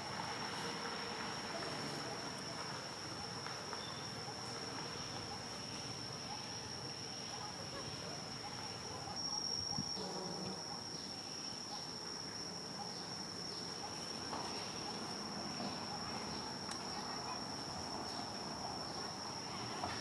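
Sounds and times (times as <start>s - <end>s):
insect droning: 0.0s - 20.0s.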